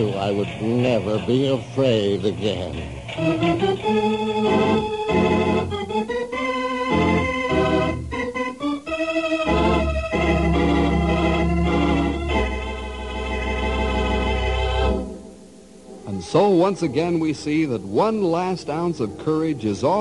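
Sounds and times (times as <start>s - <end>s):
organ playing chords: 0.0s - 20.0s.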